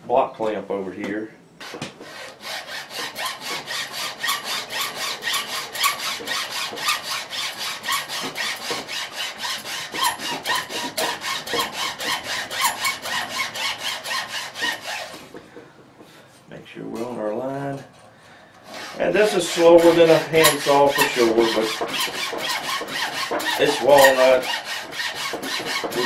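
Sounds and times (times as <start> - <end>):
hacksaw cutting wood: 1.6 - 15.4, 18.6 - 26.0.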